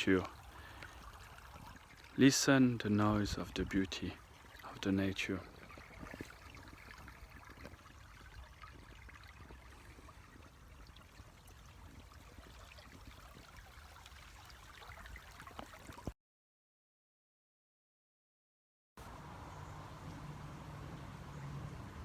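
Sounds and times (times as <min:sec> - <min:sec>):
flowing water: 0:00.0 - 0:16.2, 0:19.0 - 0:22.0.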